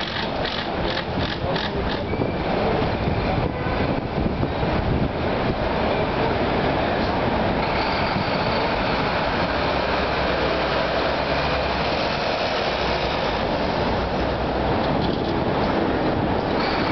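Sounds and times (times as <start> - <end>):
bus diesel engine rumble: 0.0 - 16.9
city street traffic: 0.0 - 16.9.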